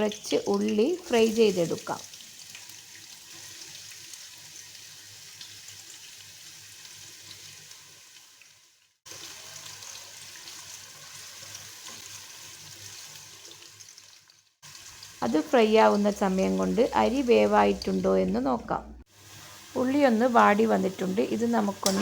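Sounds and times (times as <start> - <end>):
onion frying in oil: 0.0 - 22.0.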